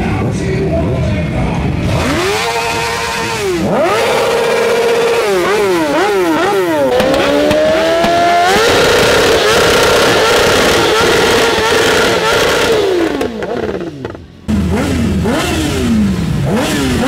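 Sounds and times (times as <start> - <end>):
motorcycle engine revving: 1.5 - 17.0.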